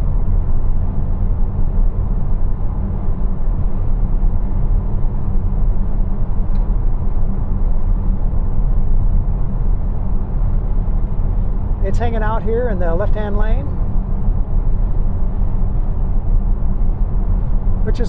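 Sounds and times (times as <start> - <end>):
road and tyre rumble in car: 0.0 - 18.0.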